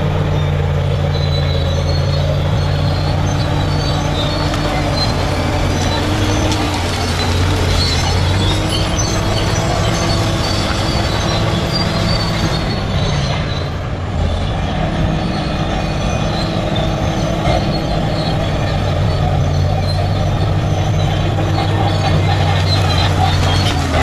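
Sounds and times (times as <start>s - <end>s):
bulldozer diesel engine under load: 0.0s - 24.0s
metallic squealing tracks: 0.0s - 24.0s.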